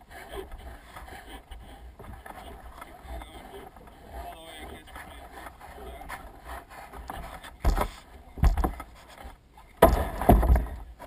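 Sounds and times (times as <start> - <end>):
plastic kayak scraping on concrete: 0.0 - 9.4.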